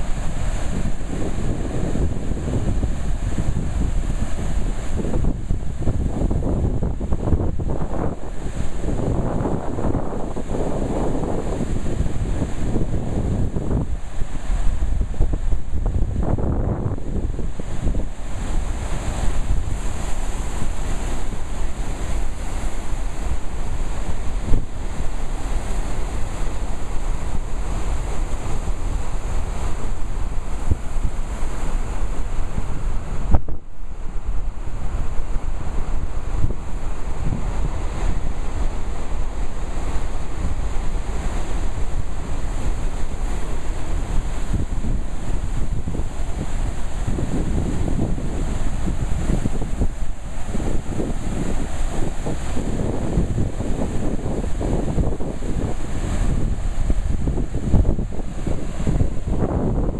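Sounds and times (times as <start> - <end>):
whitewater rushing: 0.0 - 59.9
wind buffeting microphone: 0.0 - 59.9.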